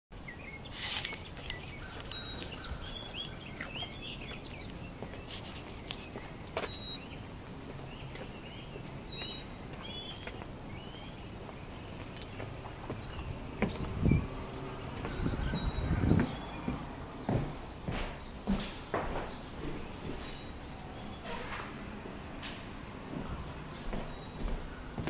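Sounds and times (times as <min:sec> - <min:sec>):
songbirds chirping: 0:00.2 - 0:25.0.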